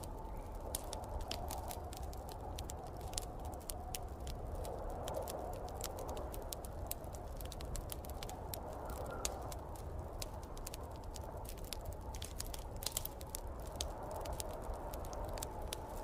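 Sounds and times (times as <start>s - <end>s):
snowstorm wind whooshing: 0.0s - 16.0s
wood fire crackling and popping: 0.0s - 16.0s.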